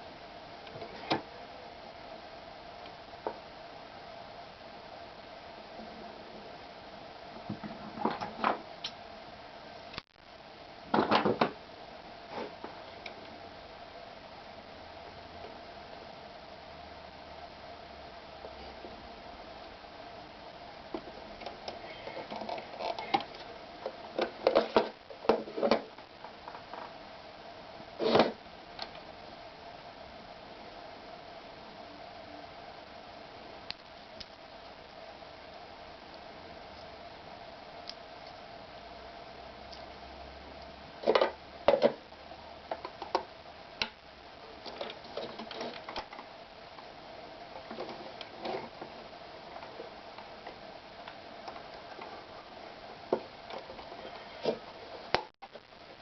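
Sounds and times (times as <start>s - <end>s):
faint hum: 0.0s - 56.0s.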